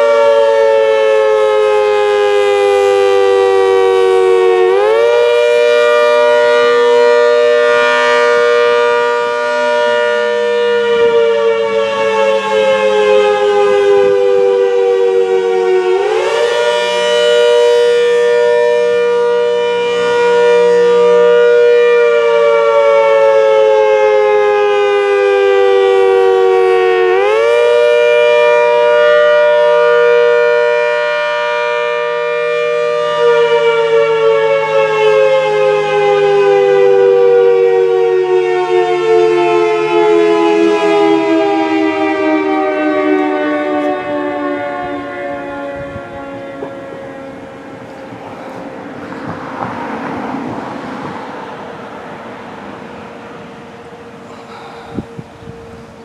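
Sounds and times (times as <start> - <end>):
wavering warning siren: 0.0 - 56.0.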